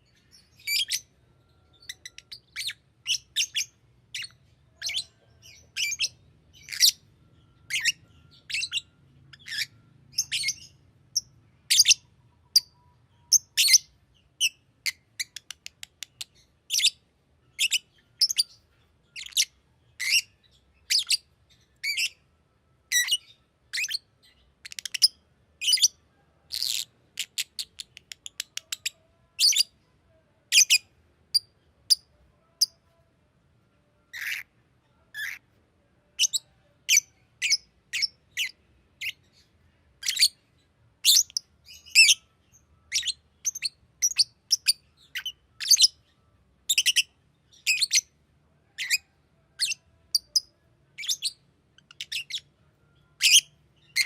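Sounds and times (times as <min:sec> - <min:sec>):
lovebird chirping: 0:00.0 - 0:32.9, 0:34.0 - 0:35.4, 0:36.1 - 0:54.0.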